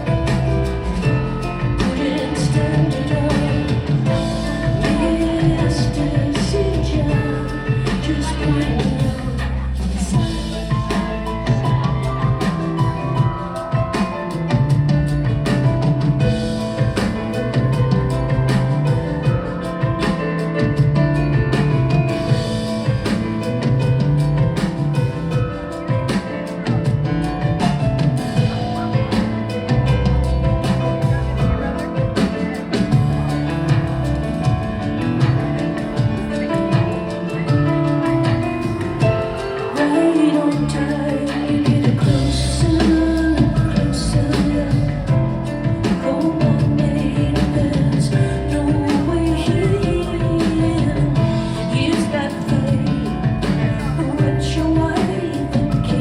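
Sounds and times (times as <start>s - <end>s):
drum kit beat with kick drum: 0.0s - 56.0s
keyboard-led rock band: 0.0s - 56.0s
woman singing: 0.0s - 56.0s.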